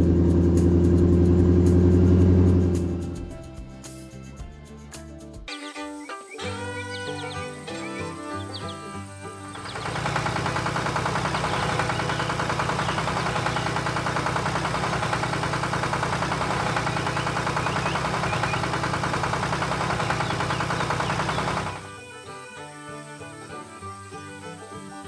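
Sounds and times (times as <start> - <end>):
engine idling: 0.0 - 3.5, 7.2 - 24.6.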